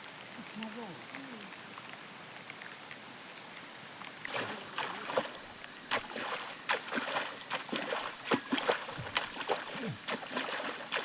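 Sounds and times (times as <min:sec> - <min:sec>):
water splashing and sloshing: 0:01.0 - 0:11.0.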